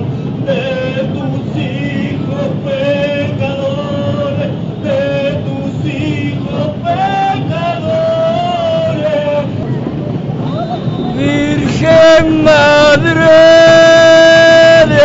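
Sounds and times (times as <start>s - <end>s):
voices singing devotional song: 0.0s - 9.7s, 11.2s - 15.0s
continuous background din: 0.0s - 15.0s.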